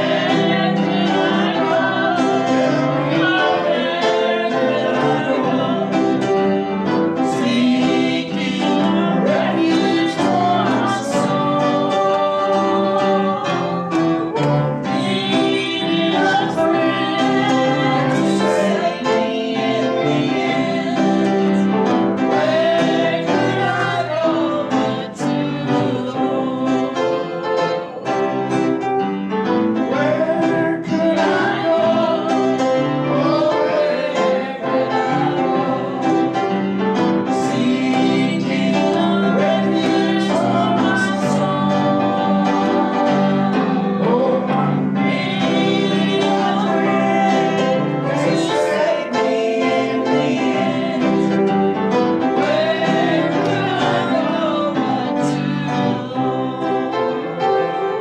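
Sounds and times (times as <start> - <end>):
person singing: 0.0 - 28.6, 29.8 - 58.0
guitar: 0.0 - 58.0
piano: 0.0 - 58.0.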